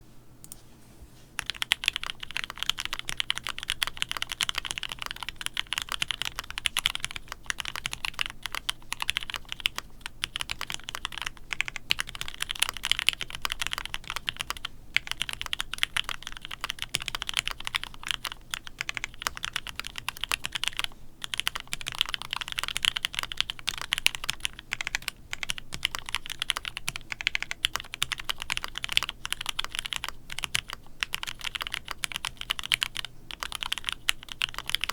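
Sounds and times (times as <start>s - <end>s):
fast mechanical keyboard typing: 1.4s - 34.9s.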